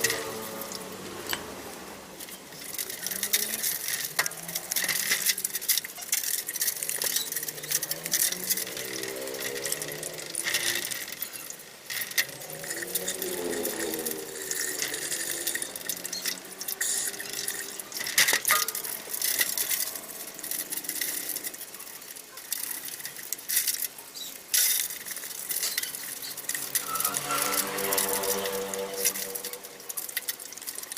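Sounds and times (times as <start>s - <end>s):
water running and splashing: 0.0s - 30.9s
hard objects clicking and knocking: 2.2s - 29.4s.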